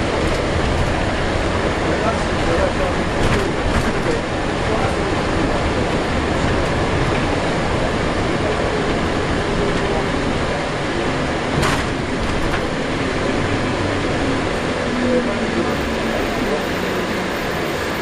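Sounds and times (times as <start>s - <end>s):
bus diesel engine: 0.0s - 18.0s
road rumble: 0.0s - 18.0s.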